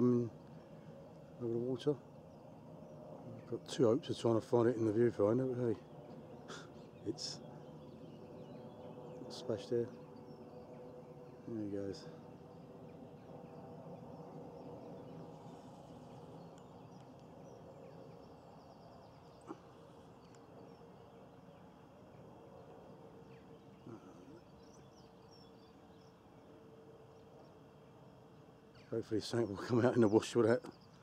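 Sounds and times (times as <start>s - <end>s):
faint background hum: 0.0s - 31.0s.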